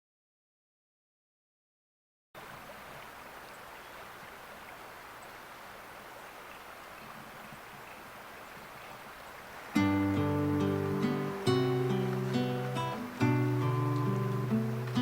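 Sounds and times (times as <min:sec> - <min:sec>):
steady rushing outdoor noise: 0:02.4 - 0:15.0.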